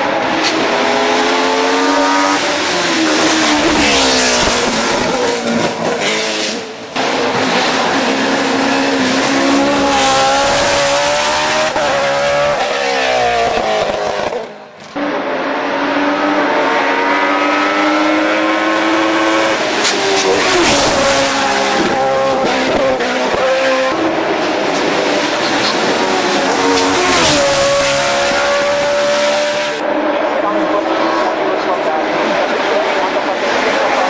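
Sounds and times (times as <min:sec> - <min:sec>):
racing engine revving high: 0:00.0 - 0:34.0.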